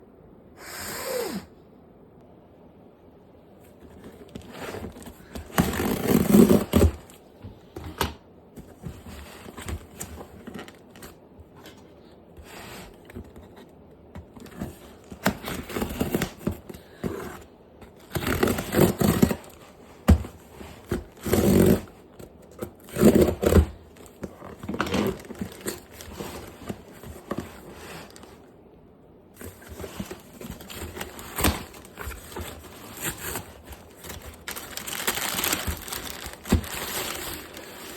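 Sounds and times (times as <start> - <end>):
packaging scraping and crinkling: 3.6 - 28.5, 29.3 - 37.9.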